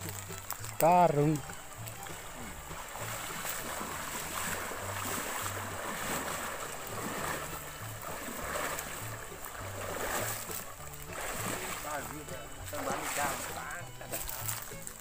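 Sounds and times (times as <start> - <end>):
river water splashing around legs: 0.0 - 15.0.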